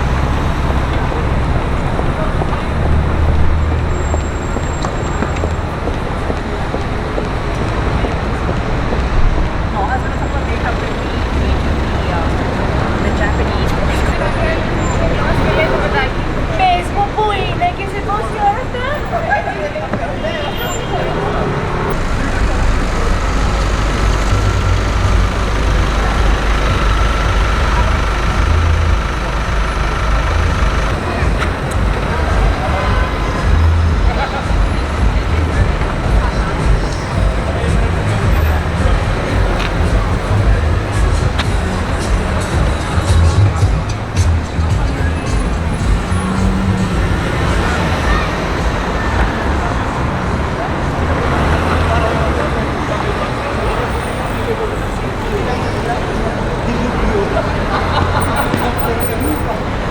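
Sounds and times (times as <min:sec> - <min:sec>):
road noise hiss: 0:00.0 - 0:59.9
traffic rumble: 0:00.0 - 0:59.9.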